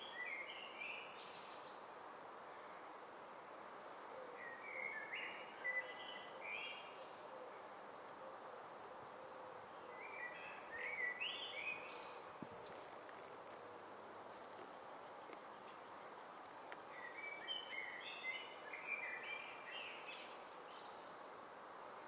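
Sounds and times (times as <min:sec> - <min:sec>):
songbird singing: 0:00.0 - 0:02.9, 0:04.2 - 0:21.5
faint background noise: 0:00.0 - 0:22.0.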